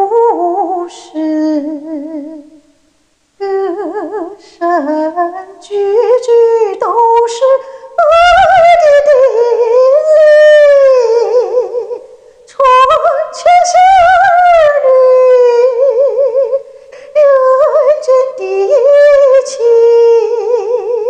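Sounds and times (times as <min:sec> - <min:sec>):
woman singing with vibrato: 0:00.0 - 0:21.0.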